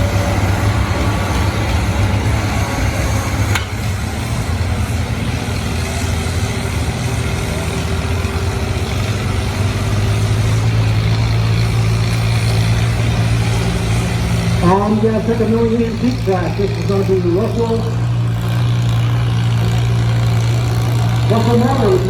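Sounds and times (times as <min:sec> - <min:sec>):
tractor engine under load: 0:00.0 - 0:22.0.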